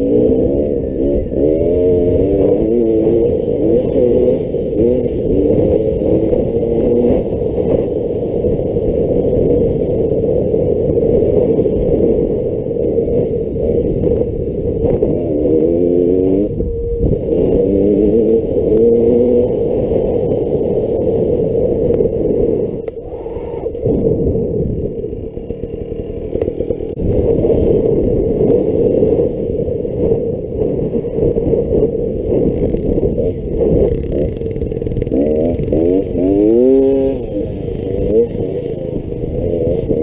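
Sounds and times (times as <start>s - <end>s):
dirt bike engine revving: 0.0s - 21.6s, 22.3s - 29.7s, 30.7s - 40.0s.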